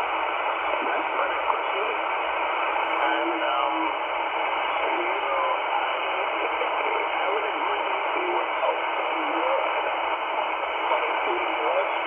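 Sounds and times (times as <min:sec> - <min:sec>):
faint garbled radio voices: 0:00.0 - 0:12.0
radio static hiss: 0:00.0 - 0:12.0.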